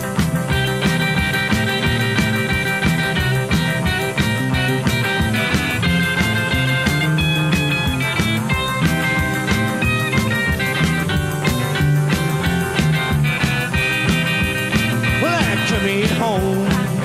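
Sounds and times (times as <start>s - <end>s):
electric guitar lines: 0.0s - 17.0s
steady drum beat: 0.0s - 17.0s.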